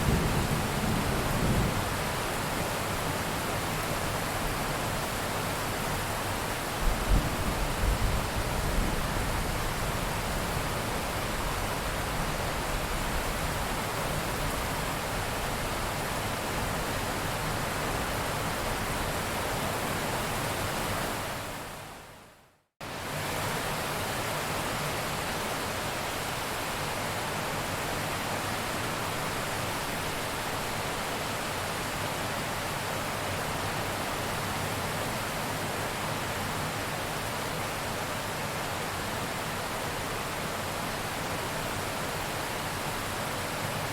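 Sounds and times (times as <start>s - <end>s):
heavy rain: 0.0s - 22.2s, 22.8s - 43.9s.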